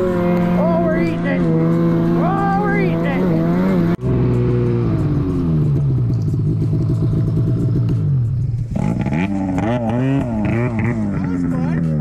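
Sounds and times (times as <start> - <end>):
snowmobile engine easing off: 0.0 - 12.0.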